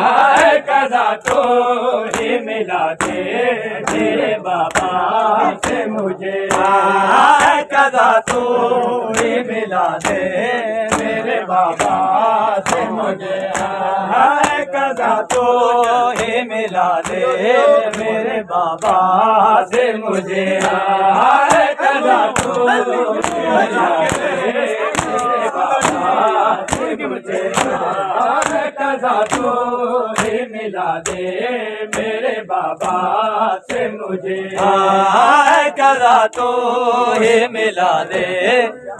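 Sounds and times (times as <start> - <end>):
men chanting in unison: 0.0 - 38.9
hands slapping chests: 0.1 - 38.3.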